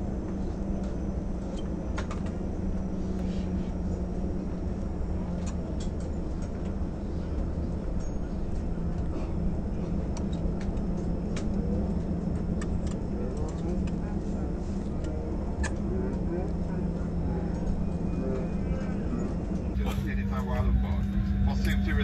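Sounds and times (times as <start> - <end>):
airliner cabin hum: 0.0 - 22.0.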